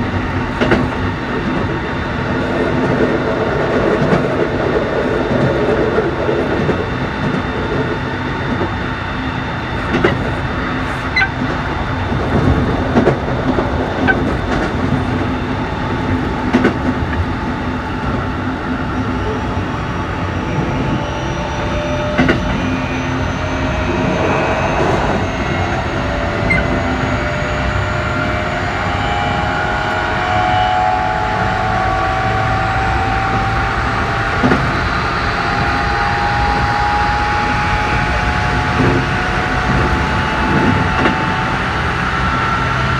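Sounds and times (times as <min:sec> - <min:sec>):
electric train running: 0:00.0 - 0:42.9
rising motor whine: 0:00.0 - 0:42.9.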